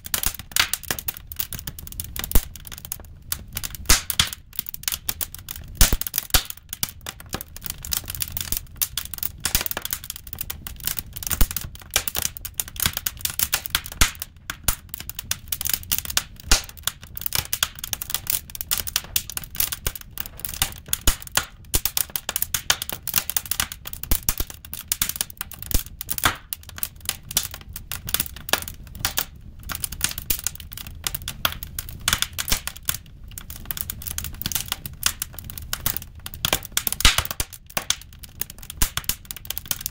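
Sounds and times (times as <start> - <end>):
firewood crackling and popping: 0.0 - 39.9
low fire rumble: 0.0 - 39.9.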